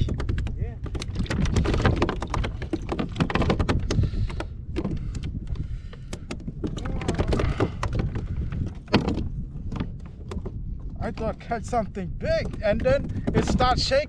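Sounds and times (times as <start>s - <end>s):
sharp taps and knocks: 0.0s - 11.6s, 12.2s - 13.8s.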